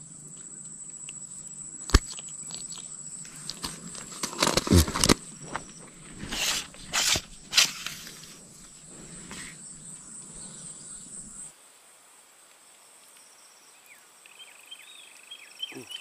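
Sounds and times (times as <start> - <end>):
crickets droning: 0.0 - 16.0
faint outdoor hiss: 0.0 - 16.0.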